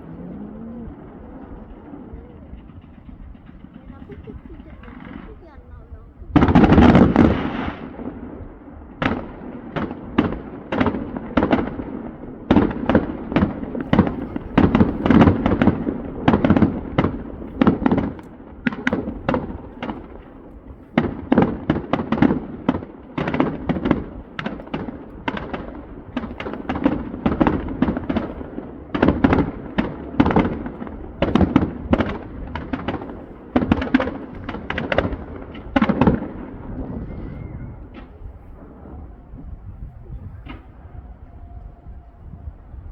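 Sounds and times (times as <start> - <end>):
fireworks bursting: 0.0 - 41.5.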